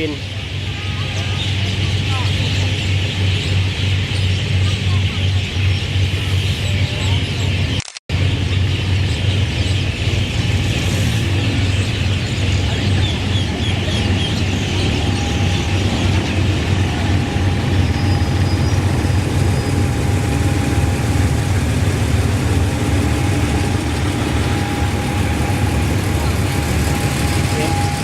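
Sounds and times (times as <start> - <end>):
train diesel engine humming: 0.0 - 28.0.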